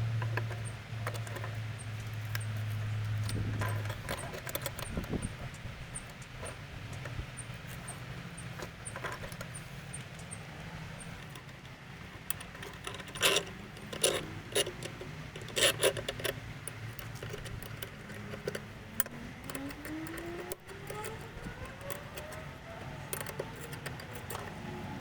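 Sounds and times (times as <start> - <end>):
low steady hum: 0.0 - 25.0
metal parts clinking and knocking: 0.2 - 25.0.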